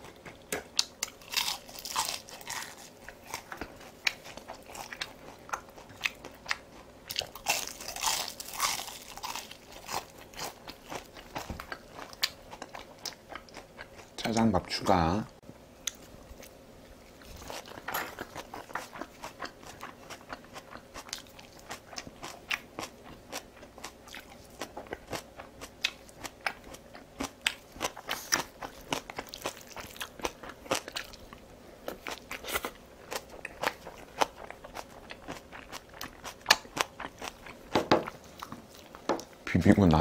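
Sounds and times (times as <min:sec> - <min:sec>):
chewing crunchy fried food: 0:00.0 - 0:14.9, 0:15.8 - 0:39.4.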